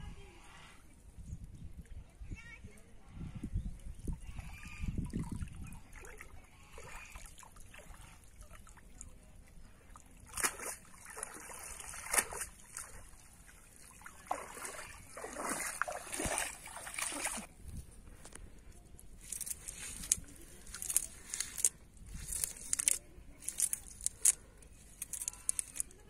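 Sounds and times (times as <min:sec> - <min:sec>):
water splashing and trickling: 0:04.0 - 0:26.0.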